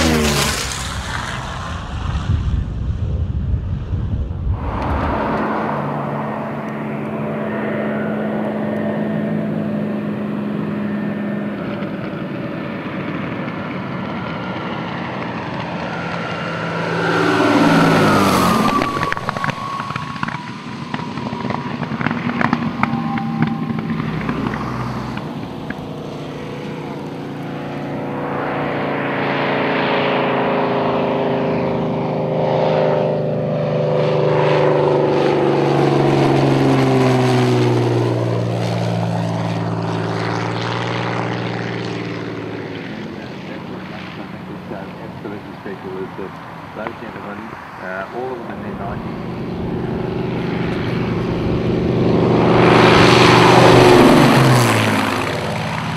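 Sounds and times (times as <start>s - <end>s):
fighter plane piston engines: 0.0s - 55.9s.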